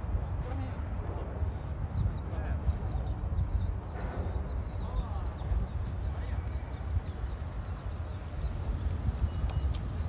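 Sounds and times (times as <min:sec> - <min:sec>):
steady low rumble: 0:00.0 - 0:10.0
small birds chirping: 0:01.4 - 0:10.0.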